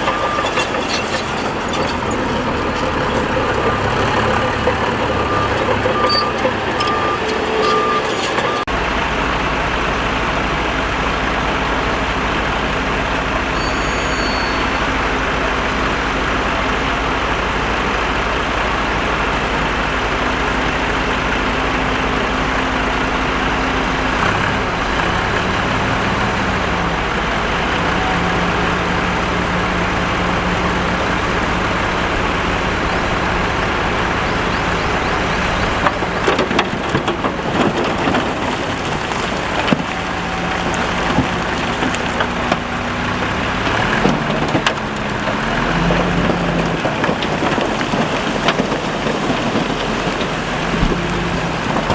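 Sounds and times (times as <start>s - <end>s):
heavy earthmoving machinery running: 0.0s - 51.9s.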